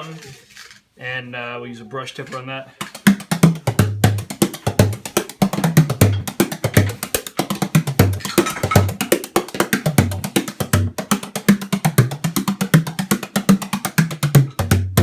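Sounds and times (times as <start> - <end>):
frame drum played with brush: 2.8 - 15.0.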